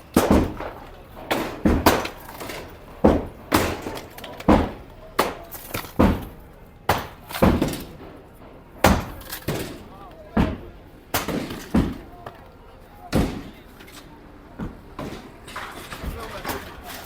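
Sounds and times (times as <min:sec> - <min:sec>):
heavy demolition blows and crashes: 0:00.0 - 0:12.4, 0:14.6 - 0:17.0.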